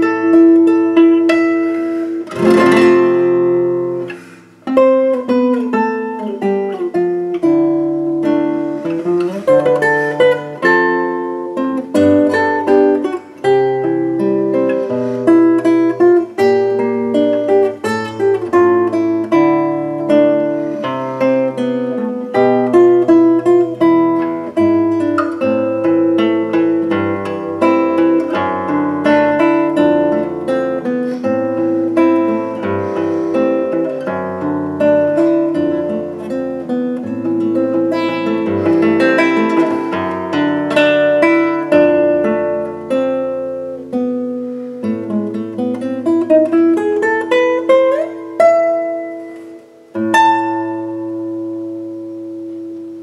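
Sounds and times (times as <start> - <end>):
classical guitar fingerpicking: 0.0 - 53.0.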